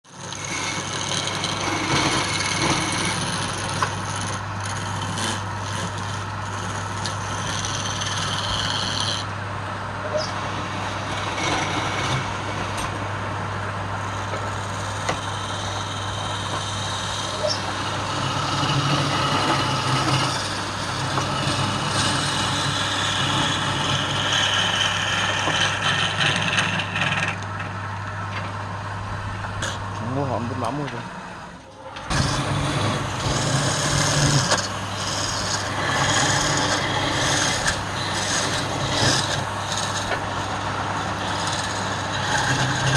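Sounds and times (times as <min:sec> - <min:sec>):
tool cutting spinning wood: 0:00.0 - 0:28.7, 0:29.4 - 0:42.9
wood lathe humming: 0:00.0 - 0:42.9.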